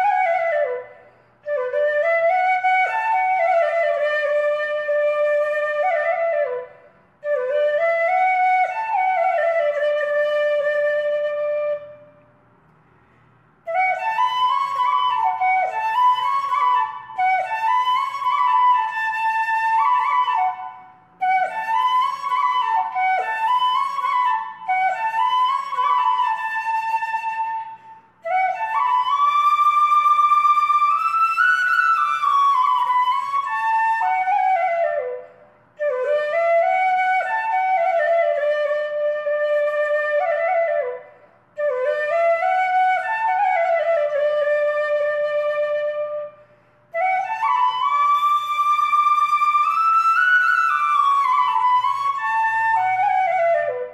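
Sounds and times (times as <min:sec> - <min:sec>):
flute melody: 0:00.0 - 0:12.2, 0:13.7 - 0:53.9.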